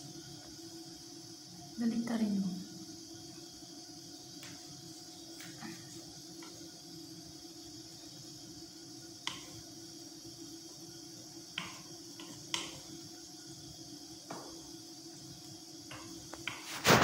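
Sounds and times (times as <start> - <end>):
steady hiss and low hum: 0.0 - 17.0.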